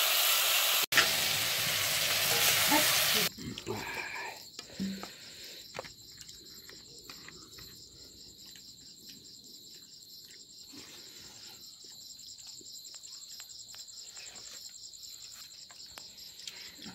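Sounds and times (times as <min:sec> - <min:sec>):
crickets chirping: 0:01.0 - 0:16.9.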